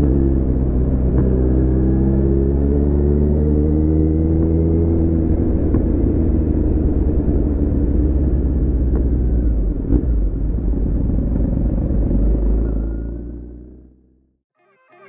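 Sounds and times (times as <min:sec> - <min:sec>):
motorcycle engine rumble: 0:00.0 - 0:14.4.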